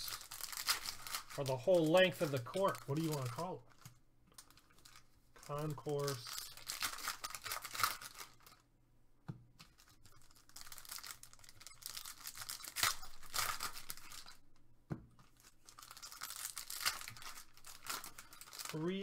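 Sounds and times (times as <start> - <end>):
foil wrapper tearing and crinkling: 0.0 - 3.5, 4.5 - 8.6, 9.7 - 14.4, 15.4 - 19.0.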